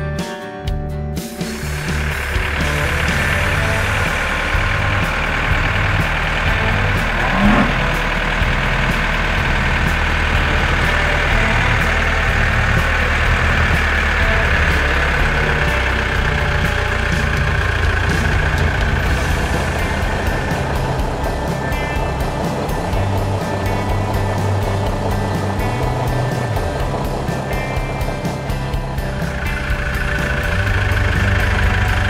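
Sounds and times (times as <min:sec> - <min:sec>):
cartoon tractor engine: 0:01.3 - 0:32.0.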